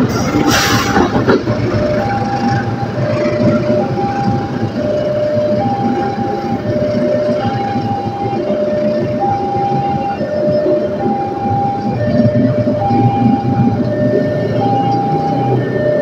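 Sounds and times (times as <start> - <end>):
train wheels rumbling on rails: 0.0 - 16.0
two-tone level-crossing alarm: 1.6 - 16.0.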